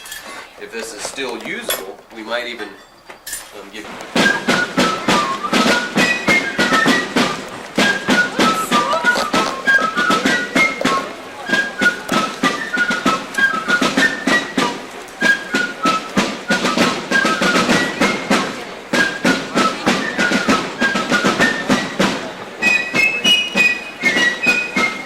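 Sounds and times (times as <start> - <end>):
fife melody: 0.0 - 25.0
snare drums playing: 3.6 - 25.0.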